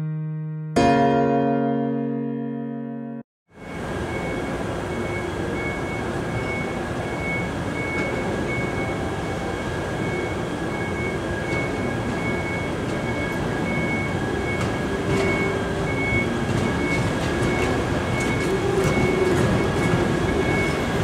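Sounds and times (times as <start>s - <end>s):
electric train rolling: 3.6s - 21.0s.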